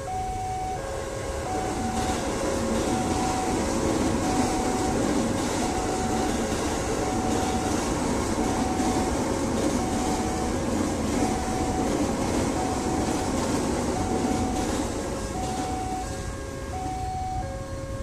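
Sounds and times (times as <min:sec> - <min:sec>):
level crossing alarm: 0:00.0 - 0:18.0
train passing at speed: 0:00.0 - 0:18.0.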